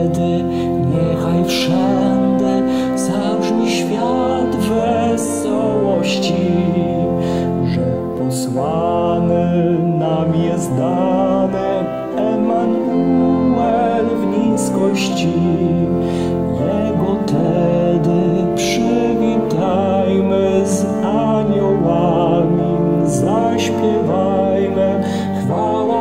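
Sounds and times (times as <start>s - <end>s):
church organ chords: 0.0s - 26.0s
man singing a carol: 0.0s - 26.0s.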